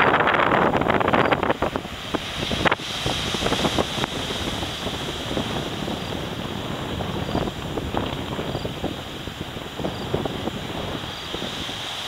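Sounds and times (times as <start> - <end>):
storm surf breaking on shore: 0.0 - 12.0
wind buffeting microphone: 0.0 - 12.0.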